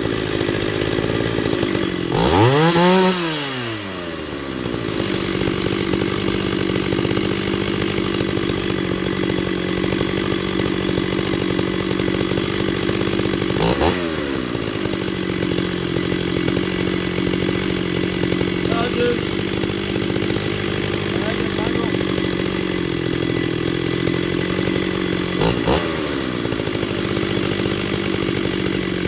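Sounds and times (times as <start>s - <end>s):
chainsaw idling with throttle blips: 0.0s - 29.0s.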